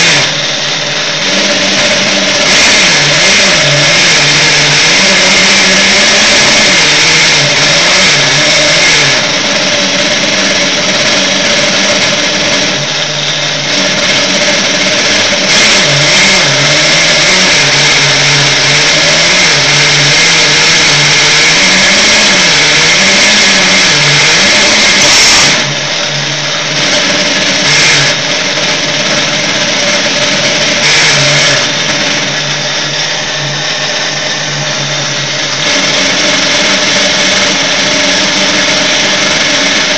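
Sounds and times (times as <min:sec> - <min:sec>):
lathe motor hum: 0:00.0 - 0:39.9.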